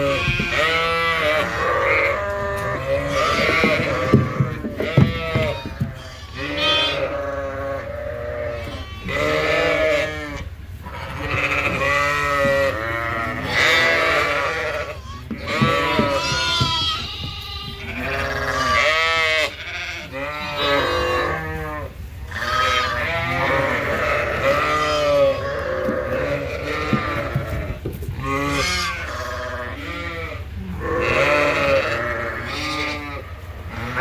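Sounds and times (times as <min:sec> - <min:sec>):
sheep and lambs bleating: 0:00.0 - 0:34.0.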